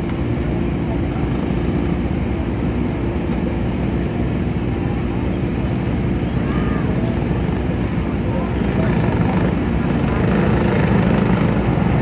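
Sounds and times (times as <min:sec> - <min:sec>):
engines droning at low speed: 0:00.0 - 0:12.0.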